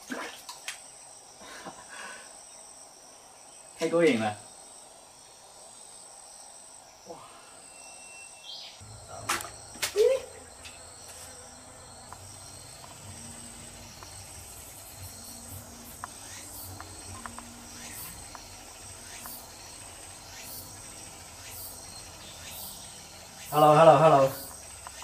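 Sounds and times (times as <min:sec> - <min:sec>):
crickets chirring: 0:00.0 - 0:25.0.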